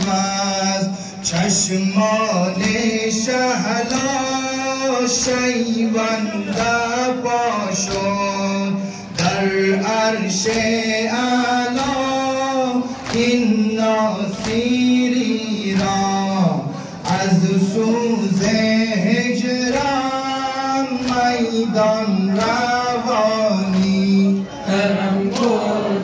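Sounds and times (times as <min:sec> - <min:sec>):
man chanting a lament: 0:00.0 - 0:26.0
rhythmic chest-beating slaps: 0:00.0 - 0:26.0.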